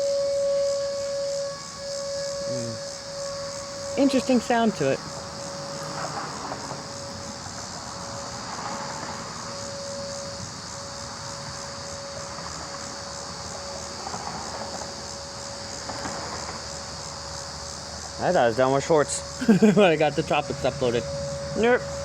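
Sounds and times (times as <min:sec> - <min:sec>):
insects chirping: 0:00.0 - 0:22.0
warning siren steady tone: 0:00.0 - 0:22.0.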